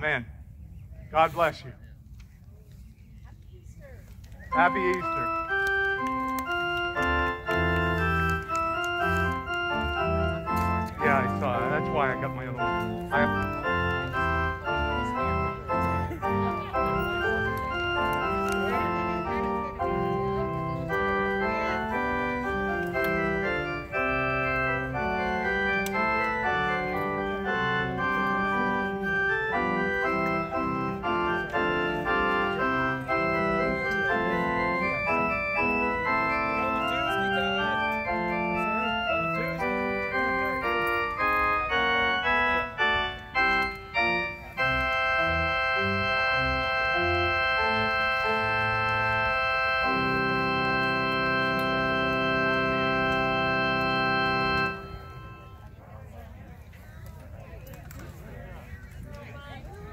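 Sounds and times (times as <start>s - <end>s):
organ playing chords and melody: 4.0s - 56.3s.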